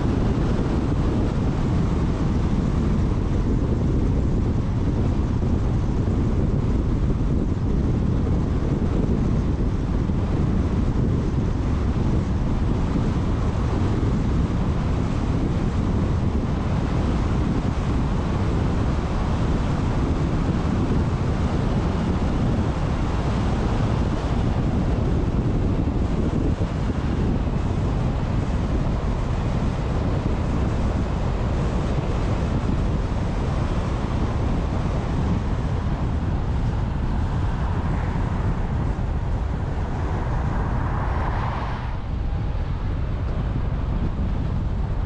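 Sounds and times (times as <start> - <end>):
car wind and road noise: 0.0 - 45.0
wind buffeting microphone: 0.0 - 45.0.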